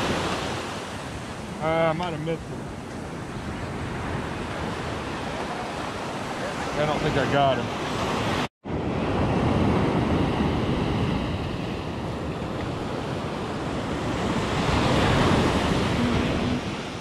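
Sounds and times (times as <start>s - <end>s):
surf breaking on beach: 0.0s - 17.0s
wind on microphone: 0.0s - 17.0s.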